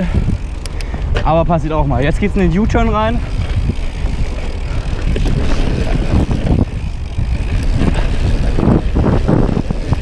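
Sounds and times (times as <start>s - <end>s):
bike knocking and rattling: 0.0s - 10.0s
bike tyres rumbling on dirt: 0.0s - 10.0s
wind on microphone: 0.0s - 10.0s.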